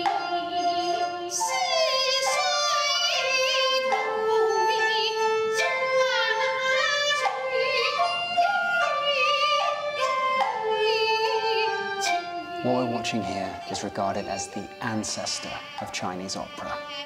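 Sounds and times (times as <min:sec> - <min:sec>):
held instrumental notes: 0:00.0 - 0:17.0
woman singing opera: 0:00.0 - 0:17.0.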